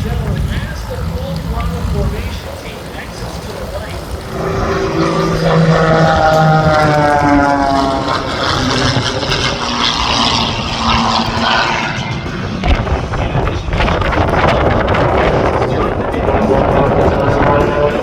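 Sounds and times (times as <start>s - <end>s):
propeller airplane flying past: 0.0s - 18.0s.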